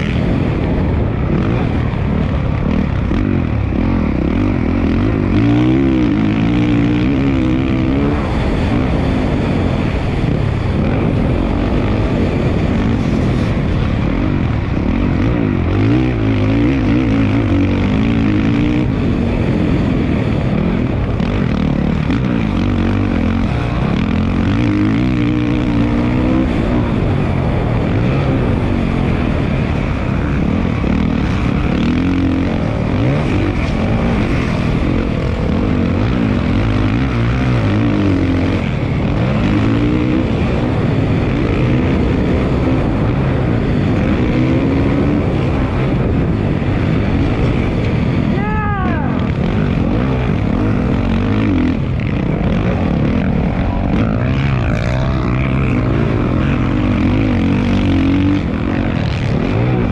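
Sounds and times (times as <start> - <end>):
constant noisy rush: 0.0 - 59.9
motocross bike engine revving: 0.0 - 59.9.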